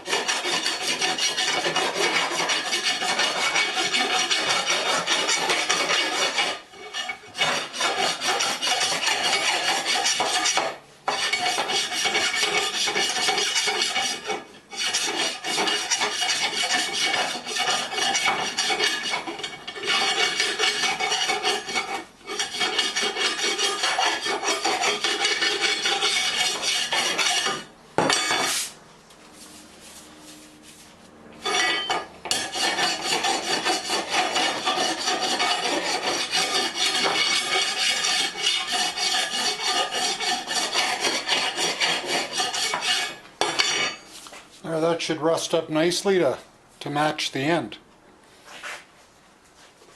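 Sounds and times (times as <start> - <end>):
grinder abrading steel: 0.0 - 28.7, 31.4 - 44.2.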